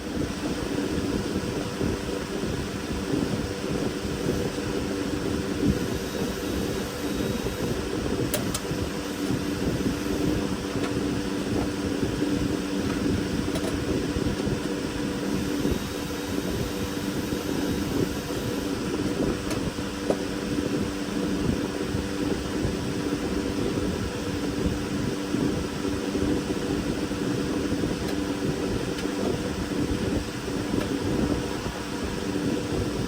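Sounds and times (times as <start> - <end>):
mechanical whir with low hum: 0.0 - 33.0.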